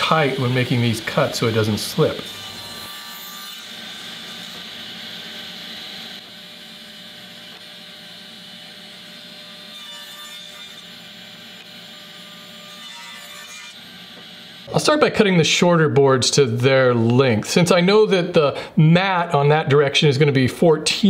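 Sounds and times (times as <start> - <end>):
table saw cutting wood: 0.0 - 18.1.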